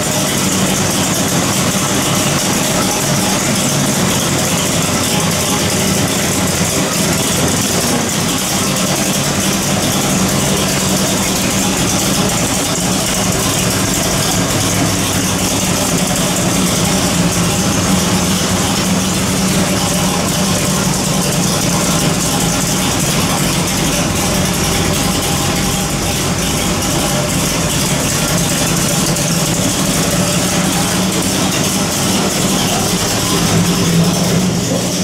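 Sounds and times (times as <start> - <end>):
marine engine idling: 0.0 - 35.0.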